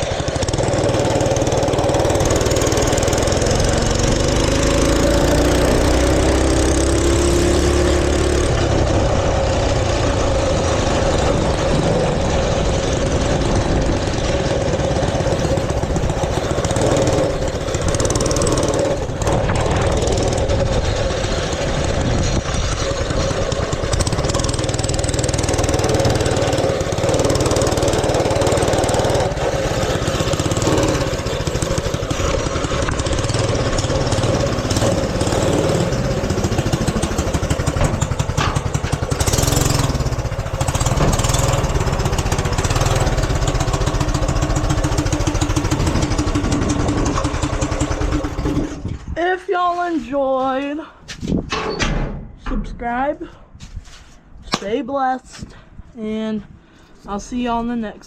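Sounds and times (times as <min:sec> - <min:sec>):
small engine running: 0:00.0 - 0:49.0.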